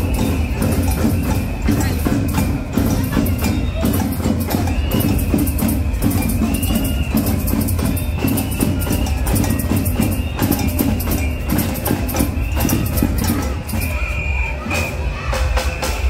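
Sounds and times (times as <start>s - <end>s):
held high melody line: 0.0s - 16.0s
jingling tambourine hits: 0.0s - 16.0s
steady percussion beat: 0.0s - 16.0s.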